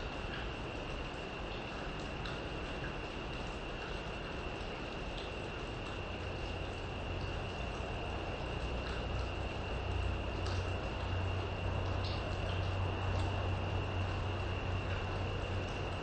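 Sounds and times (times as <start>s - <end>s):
drip-like ticks: 0.0s - 16.0s
rain falling on foliage: 0.0s - 16.0s.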